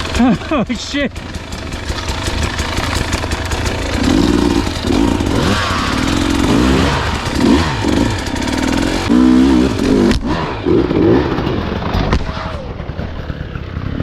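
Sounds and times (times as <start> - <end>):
constant rushing noise: 0.0 - 14.0
dirt bike engine revving: 0.0 - 14.0.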